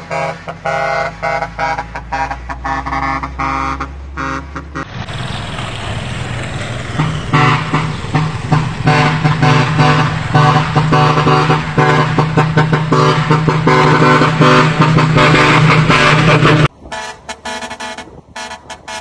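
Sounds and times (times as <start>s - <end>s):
truck musical horn tune: 0.0s - 5.3s, 6.5s - 19.0s
engine and road noise: 0.0s - 19.0s.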